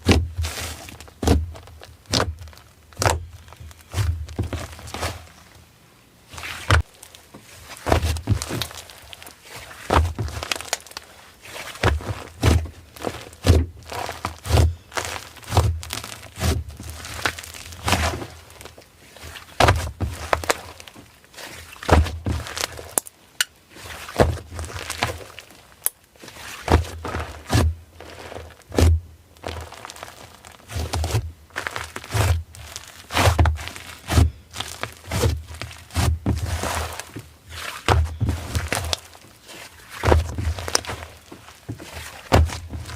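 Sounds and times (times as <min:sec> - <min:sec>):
hands squishing slime: 0:00.0 - 0:05.5, 0:06.4 - 0:42.9.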